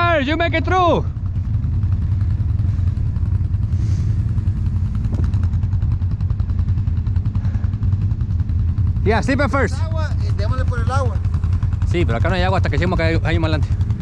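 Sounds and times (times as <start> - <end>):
atv engine droning: 0.0 - 14.0.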